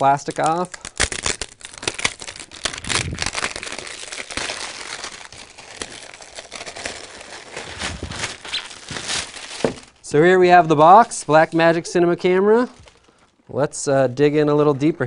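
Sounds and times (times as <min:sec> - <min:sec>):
plastic wrap crinkling: 0:00.0 - 0:13.5.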